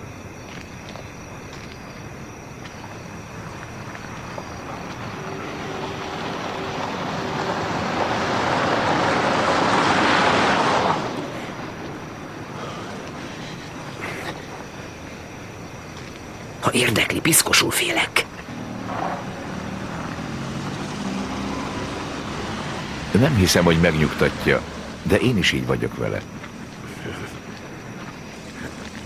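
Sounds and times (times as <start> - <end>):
car approaching: 2.9 - 17.1, 17.9 - 29.0.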